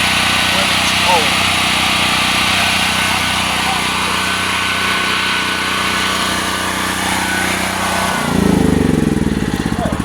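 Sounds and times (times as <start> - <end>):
generator engine humming: 0.0 - 10.0.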